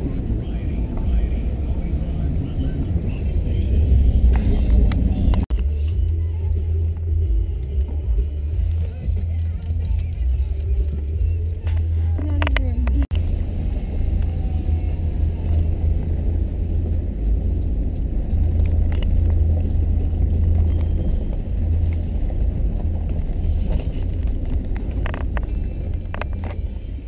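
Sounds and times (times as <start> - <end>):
vehicle road noise on gravel: 0.0 - 27.0.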